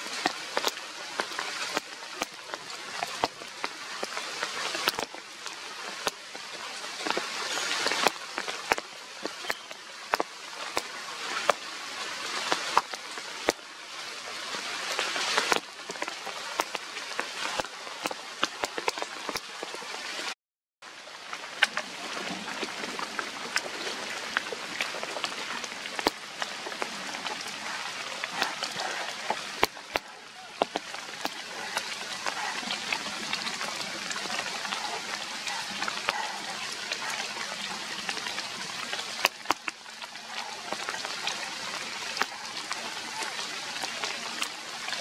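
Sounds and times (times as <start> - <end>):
sharp drips and taps: 0.0 - 20.3, 21.3 - 45.0
rain pattering: 0.0 - 45.0.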